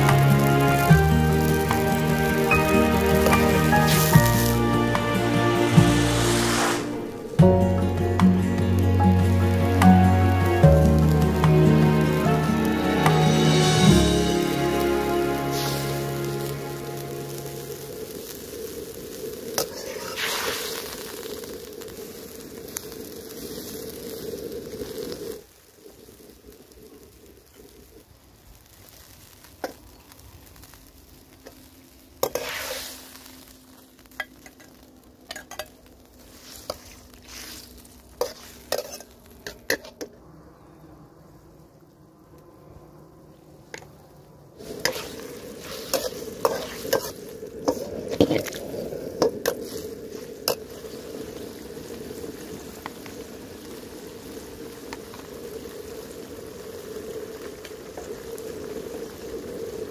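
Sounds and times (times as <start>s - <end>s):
chicken sizzling in wok: 0.0s - 40.2s, 44.6s - 59.9s
sauce bubbling: 0.0s - 40.5s, 43.7s - 59.9s.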